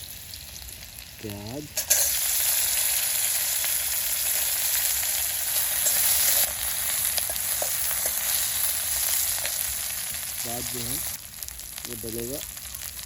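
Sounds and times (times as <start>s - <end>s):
onion frying in hot oil: 0.0s - 13.0s
small crackles: 0.1s - 13.0s.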